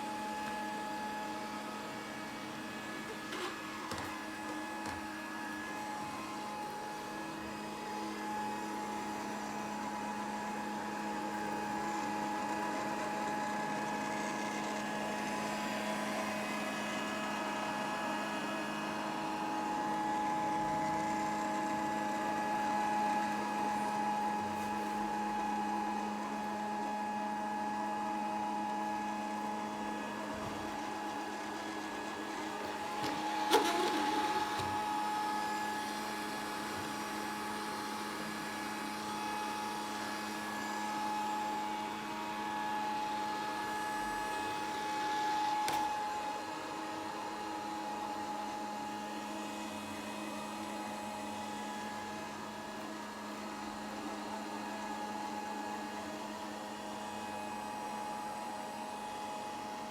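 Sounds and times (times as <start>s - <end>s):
robot vacuum humming: 0.0s - 59.6s.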